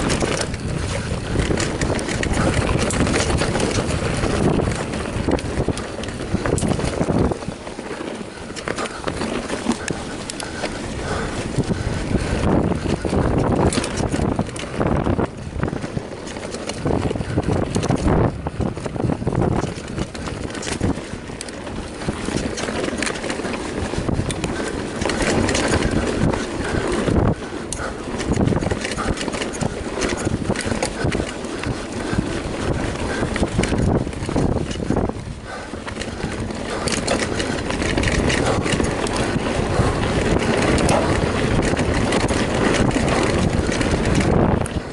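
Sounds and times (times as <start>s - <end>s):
bike rattling and knocking: 0.0s - 44.9s
tyres rolling over dirt: 0.0s - 44.9s
wind buffeting microphone: 0.0s - 44.9s.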